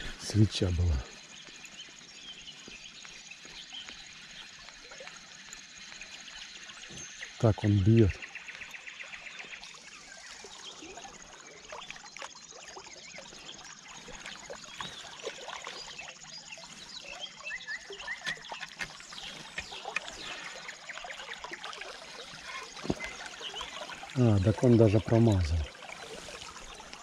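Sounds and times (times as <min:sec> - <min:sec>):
birds calling: 0:00.0 - 0:10.9, 0:13.2 - 0:27.0
river water trickling and lapping: 0:00.0 - 0:27.0.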